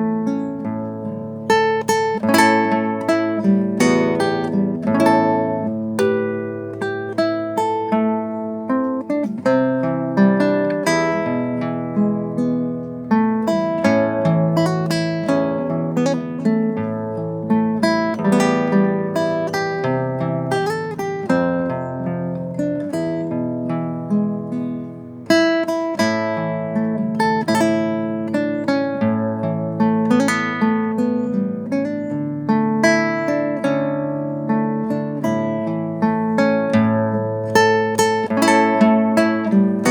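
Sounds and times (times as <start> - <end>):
acoustic guitar melody: 0.0 - 39.9.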